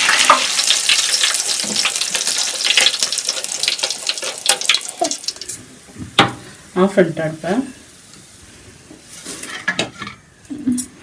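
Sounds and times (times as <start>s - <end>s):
garlic sizzling in hot oil: 0.0s - 9.6s.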